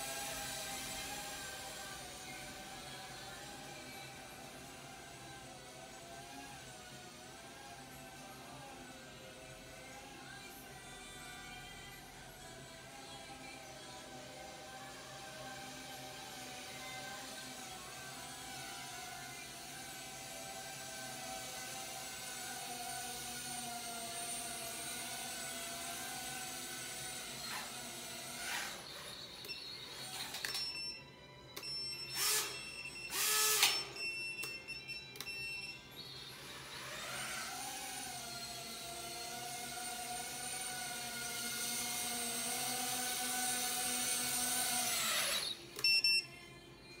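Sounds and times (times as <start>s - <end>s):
quadcopter motors whining: 0.0s - 30.6s, 31.6s - 35.3s, 35.9s - 46.0s.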